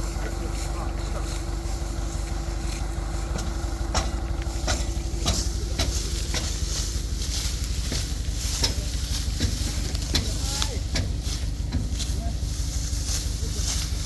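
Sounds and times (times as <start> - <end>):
combine harvester engine humming: 0.0 - 14.0
crackling and rustling: 0.4 - 14.0.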